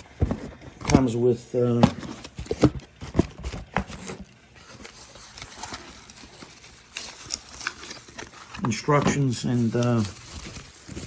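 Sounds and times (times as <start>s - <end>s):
paper packaging rustling: 0.0s - 11.0s.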